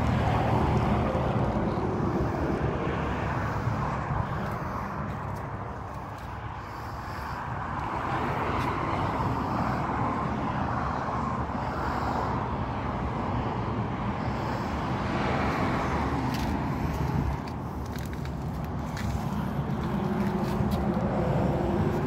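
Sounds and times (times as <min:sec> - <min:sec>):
motor vehicle engine: 0:00.0 - 0:22.0.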